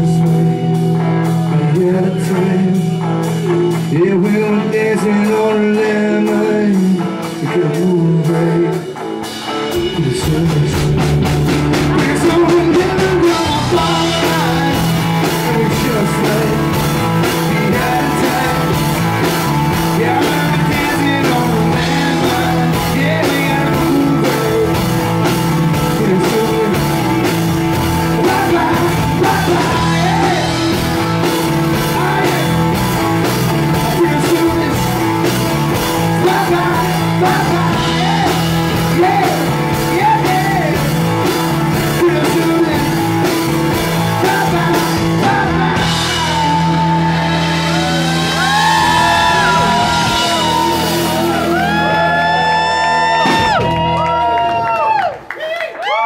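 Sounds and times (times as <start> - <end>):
man singing: 0.0 - 53.6
live rock music: 0.0 - 55.3.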